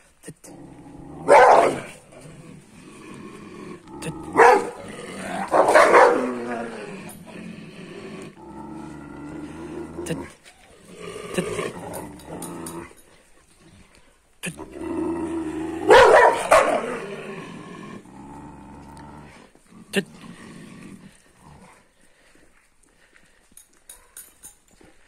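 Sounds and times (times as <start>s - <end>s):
dogs growling: 0.4s - 23.4s.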